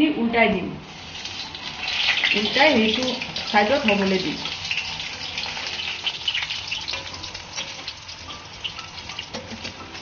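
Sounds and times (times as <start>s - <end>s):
fritters sizzling in hot oil: 0.8s - 10.0s.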